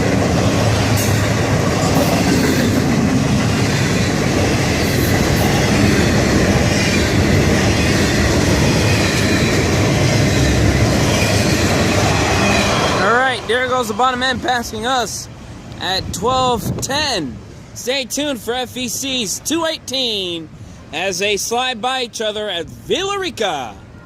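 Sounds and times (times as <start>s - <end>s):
freight train rolling past: 0.0s - 21.6s.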